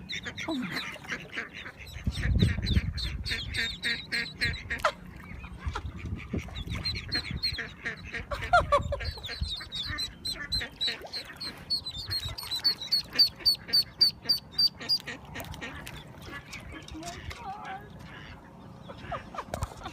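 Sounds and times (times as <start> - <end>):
mother duck calling: 0.0 - 19.4
ducklings peeping: 0.0 - 19.9.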